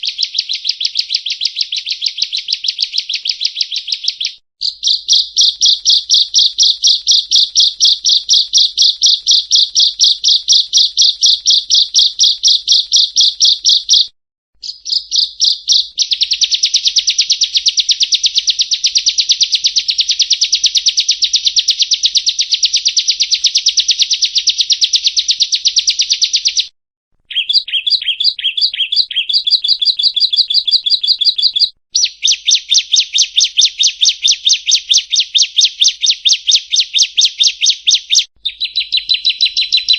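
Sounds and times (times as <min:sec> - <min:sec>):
bird chipping rapidly: 0:00.0 - 0:26.7, 0:27.3 - 0:39.9.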